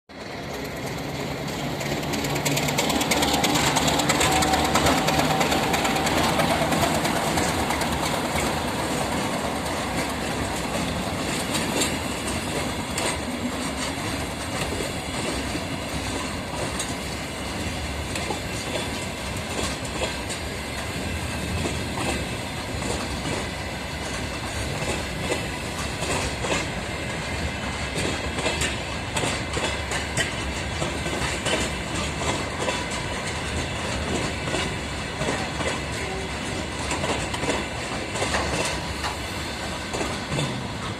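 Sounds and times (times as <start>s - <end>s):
diesel locomotive engine: 0.1s - 40.9s
wheels clacking over rail joints: 0.1s - 40.9s.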